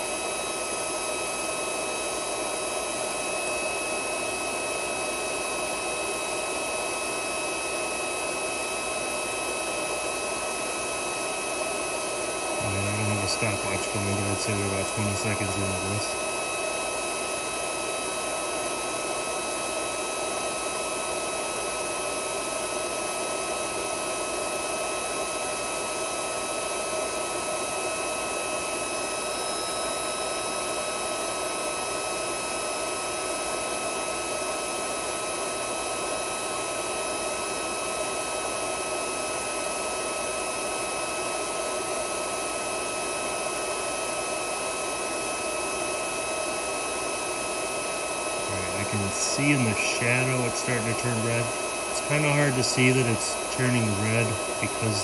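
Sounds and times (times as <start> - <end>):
induction heater hiss and whine: 0.0 - 55.0.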